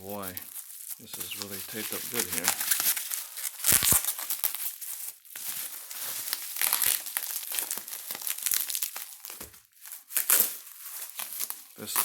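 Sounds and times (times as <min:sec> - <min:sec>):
packing wrap crinkling: 0:00.0 - 0:12.0
tape being pulled and torn: 0:00.2 - 0:04.8, 0:06.2 - 0:12.0.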